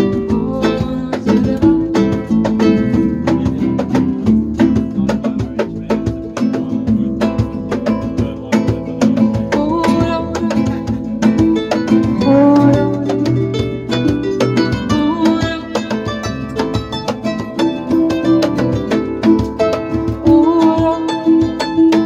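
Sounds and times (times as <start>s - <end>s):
acoustic guitar picking: 0.0s - 22.0s.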